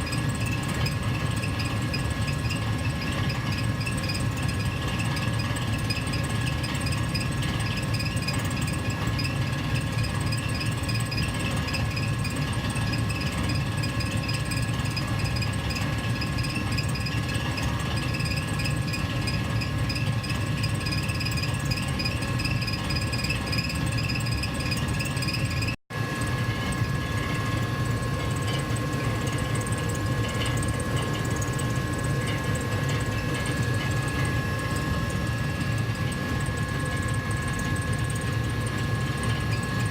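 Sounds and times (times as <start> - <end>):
gas furnace blower rumbling: 0.0 - 39.9.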